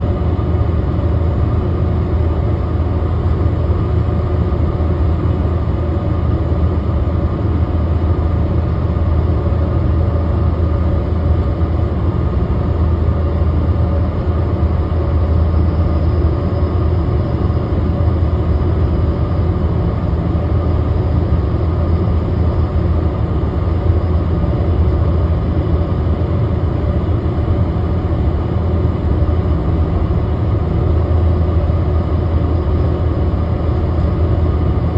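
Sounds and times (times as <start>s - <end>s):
truck engine and road drone: 0.0s - 34.9s.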